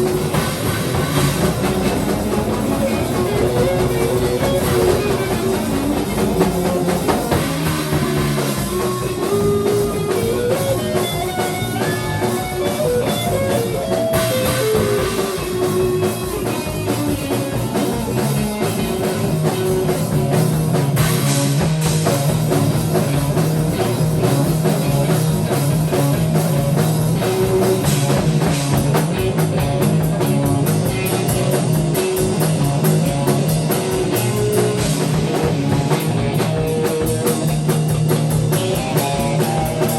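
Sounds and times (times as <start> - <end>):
drum kit playing beat: 0.0 - 39.9
guitar playing: 0.0 - 39.9.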